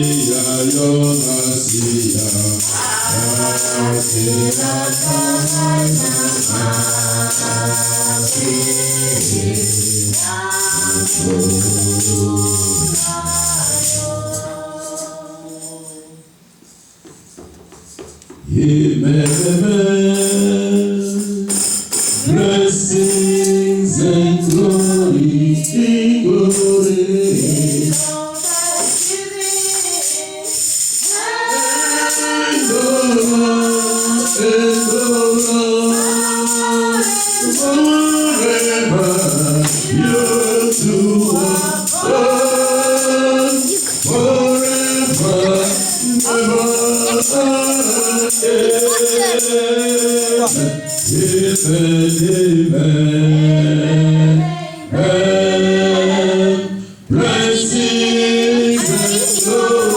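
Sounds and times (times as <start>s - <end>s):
church choir singing gospel: 0.0s - 17.1s, 18.3s - 59.9s
tambourine beat: 0.0s - 59.9s.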